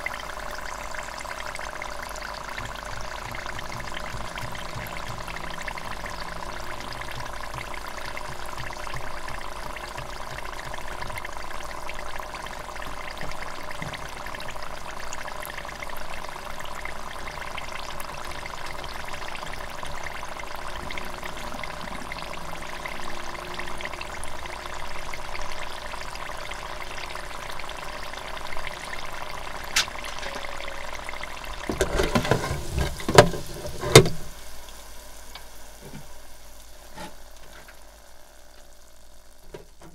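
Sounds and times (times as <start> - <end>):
hot oil sizzling and bubbling: 0.0 - 39.9.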